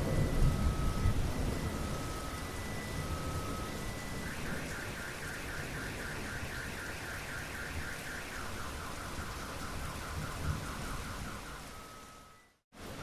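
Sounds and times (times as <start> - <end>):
steady rain: 0.0 - 13.0
car alarm warbling: 0.2 - 12.6.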